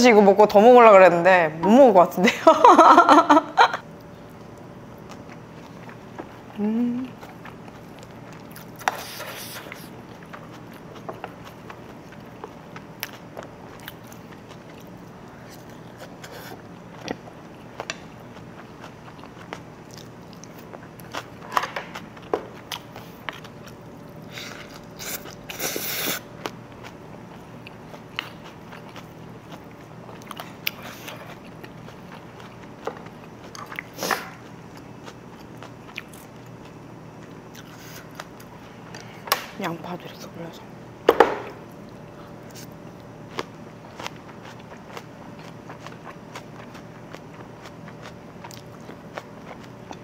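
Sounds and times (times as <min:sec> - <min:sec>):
person chewing and eating: 0:04.1 - 0:39.2, 0:41.5 - 0:50.0.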